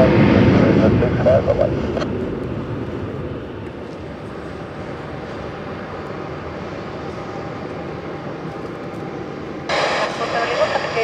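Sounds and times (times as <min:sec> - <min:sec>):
jet engines taxiing rumble: 0:00.0 - 0:11.0.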